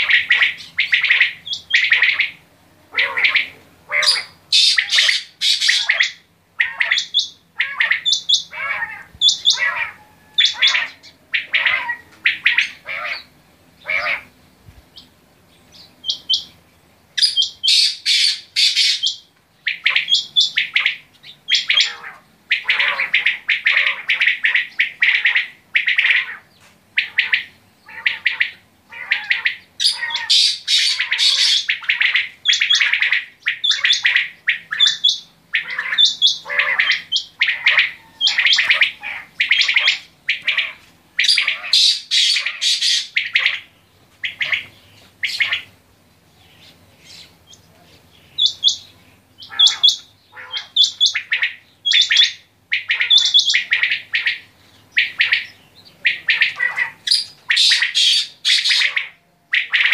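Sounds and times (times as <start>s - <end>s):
quails calling: 0.0s - 59.9s.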